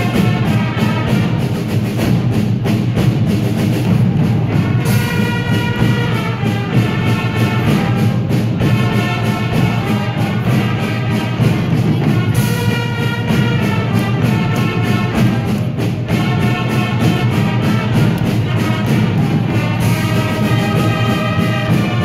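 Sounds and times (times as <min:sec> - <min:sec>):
brass fanfares: 0:00.0 - 0:22.0
marching drums: 0:00.0 - 0:22.0.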